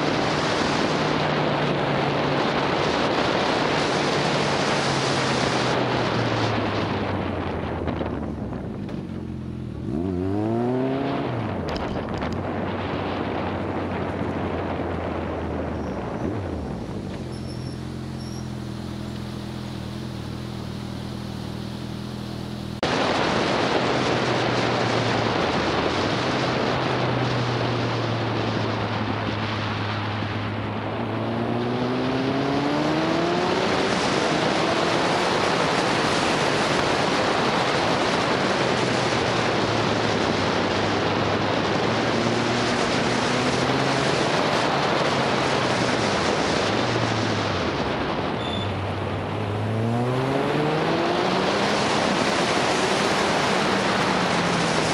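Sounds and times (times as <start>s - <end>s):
wind rush on microphone: 0.0s - 19.6s, 22.7s - 54.9s
motorcycle engine accelerating: 0.0s - 54.9s.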